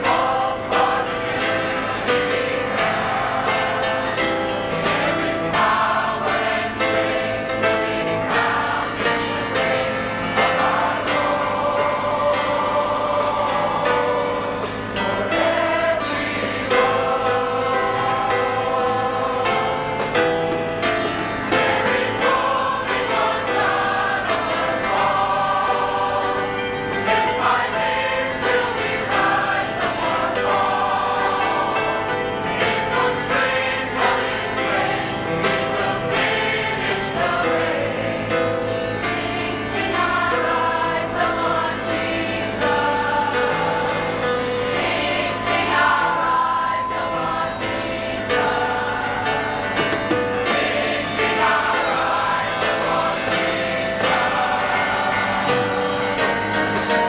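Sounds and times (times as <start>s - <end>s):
choir singing gospel in harmony: 0.0s - 57.0s.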